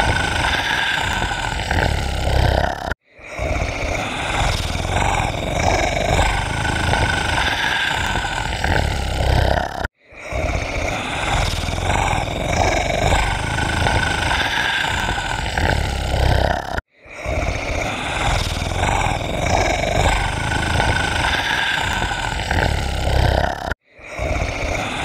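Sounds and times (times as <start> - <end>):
low animal-like roar: 0.0 - 25.0.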